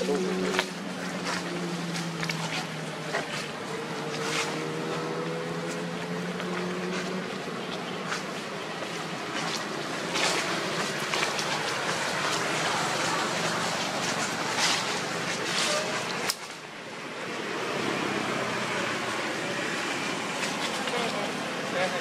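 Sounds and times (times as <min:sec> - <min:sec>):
steady rushing outdoor noise: 0:00.0 - 0:22.0.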